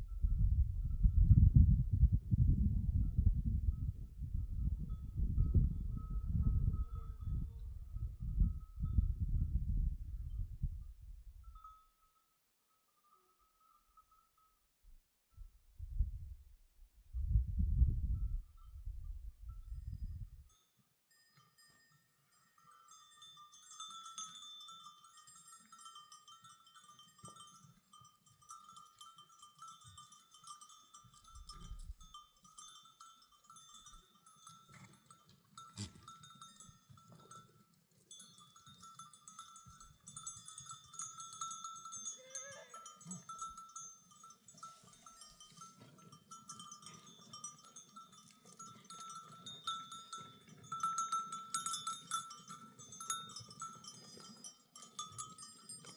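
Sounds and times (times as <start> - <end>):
livestock bells clinking: 3.7 - 9.2, 11.4 - 14.8, 19.5 - 55.9.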